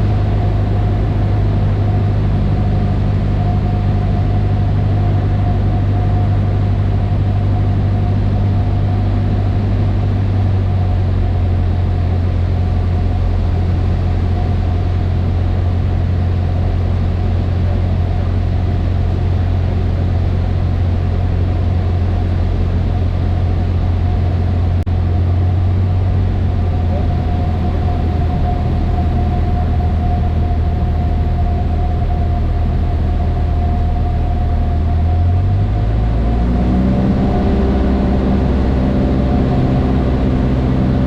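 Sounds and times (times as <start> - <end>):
light aircraft engine drone: 0.0 - 41.0
thin steady whine: 0.0 - 41.0.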